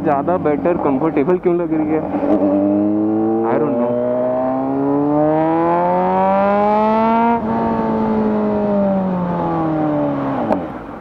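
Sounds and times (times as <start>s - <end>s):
motorcycle engine revving: 1.8s - 10.8s.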